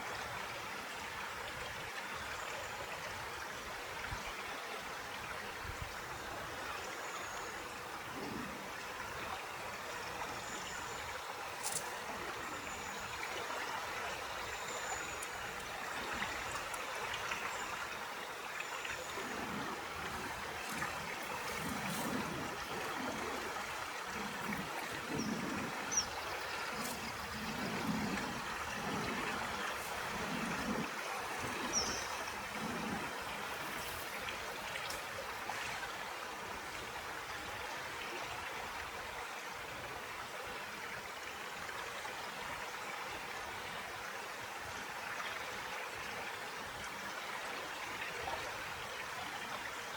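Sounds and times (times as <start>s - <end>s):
low water gurgles: 0.0s - 49.9s
stream water flowing: 0.0s - 49.9s.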